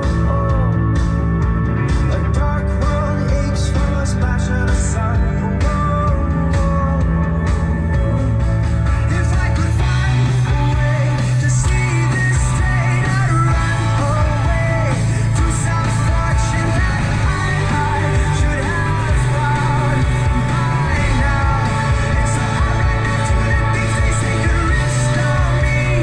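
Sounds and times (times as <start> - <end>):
rock music with singing: 0.0 - 26.0.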